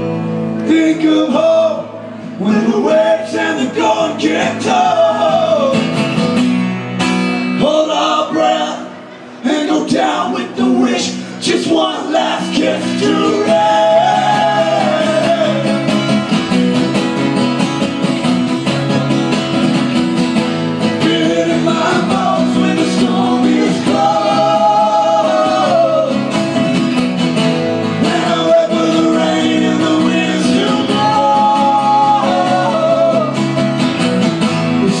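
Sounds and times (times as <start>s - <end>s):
strummed acoustic guitars: 0.0s - 35.0s.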